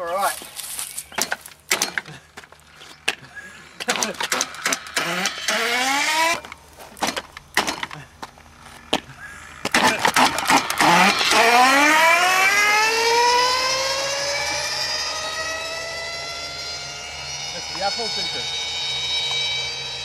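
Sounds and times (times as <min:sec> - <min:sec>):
electric motor whining: 0:01.8 - 0:20.0.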